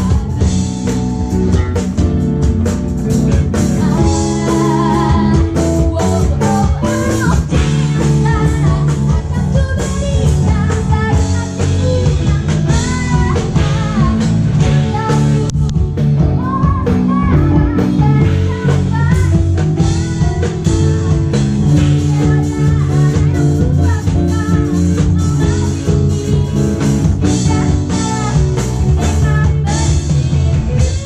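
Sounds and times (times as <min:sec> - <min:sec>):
band playing jazzy pop song: 0:00.0 - 0:31.0
gliding lead melody: 0:00.0 - 0:31.0.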